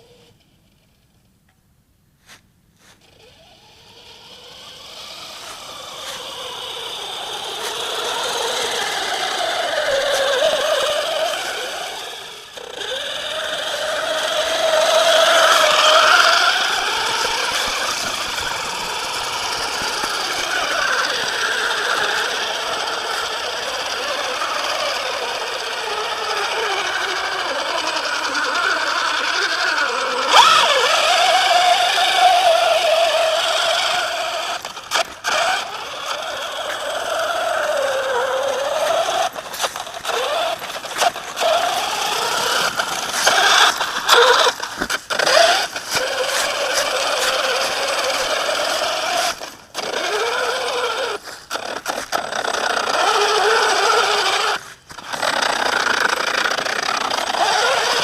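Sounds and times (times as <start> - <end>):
rc truck motor whine: 0.0 - 1.2, 2.3 - 58.0
drivetrain and chassis rattle: 3.4 - 58.0.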